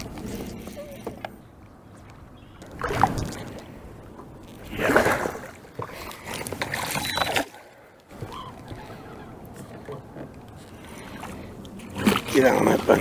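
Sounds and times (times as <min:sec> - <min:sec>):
water splashing against boat: 0:00.0 - 0:13.0.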